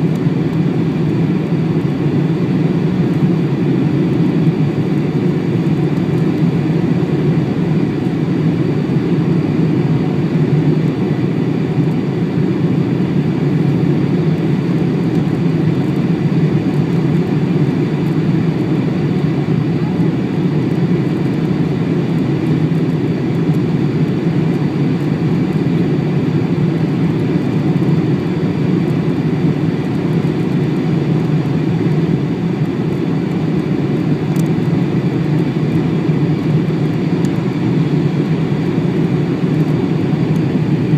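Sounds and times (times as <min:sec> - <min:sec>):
airplane engines rumbling: 0:00.0 - 0:40.9.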